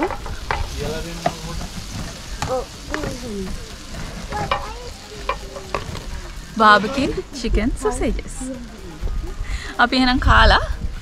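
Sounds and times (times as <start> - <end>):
sausages sizzling in a frying pan: 0.0 - 10.7.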